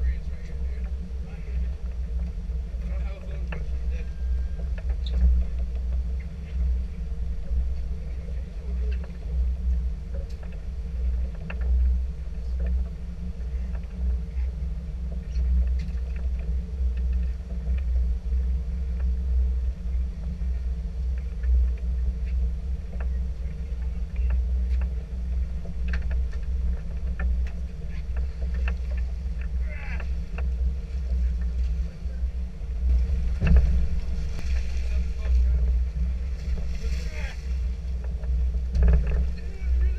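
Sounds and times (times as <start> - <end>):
boat engine idling: 0.0 - 39.9.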